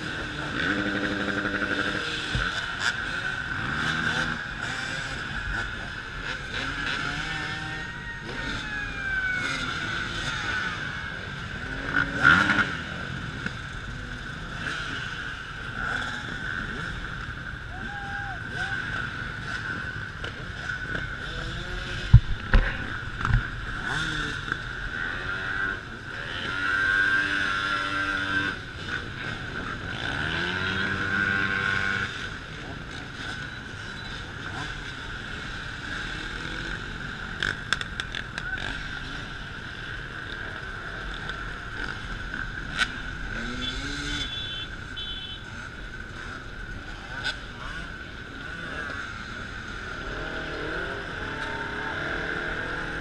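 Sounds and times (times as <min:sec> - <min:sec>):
dirt bike engines revving: 0:00.0 - 0:53.0.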